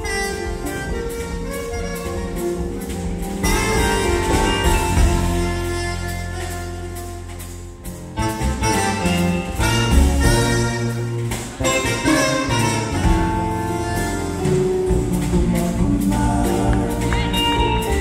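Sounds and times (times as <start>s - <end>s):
drums: 0.0s - 18.0s
electric bass: 0.0s - 18.0s
guitar: 0.0s - 18.0s
wind instrument melody: 0.0s - 18.0s.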